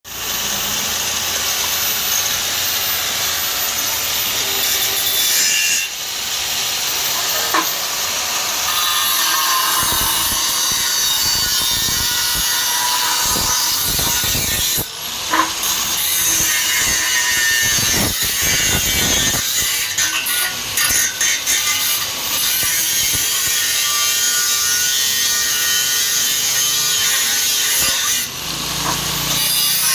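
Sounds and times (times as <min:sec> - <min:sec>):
power tool cutting: 0:00.1 - 0:29.9.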